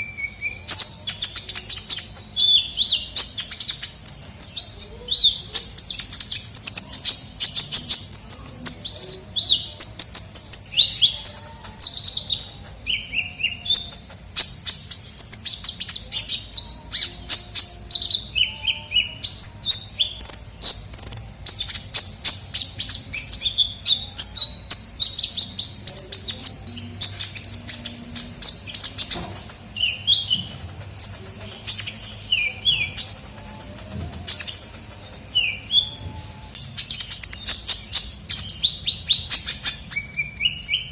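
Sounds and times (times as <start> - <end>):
sunbird chirps and trills: 0.0 - 40.9.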